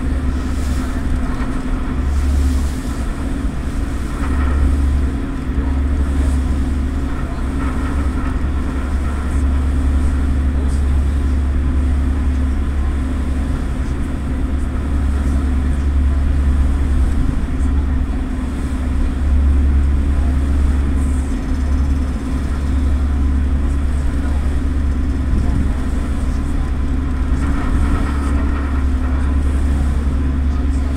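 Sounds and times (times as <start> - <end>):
ferry engines humming: 0.0 - 30.9.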